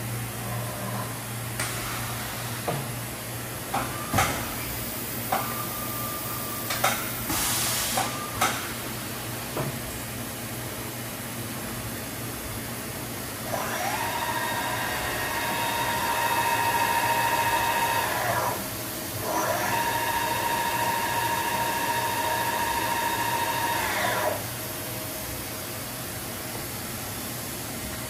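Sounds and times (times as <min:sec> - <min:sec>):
machining center whine: 0:00.0 - 0:28.0.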